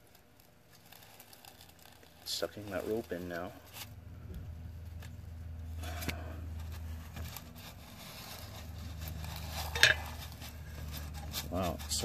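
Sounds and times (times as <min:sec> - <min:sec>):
rope scraping in starter housing: 0:00.0 - 0:12.0.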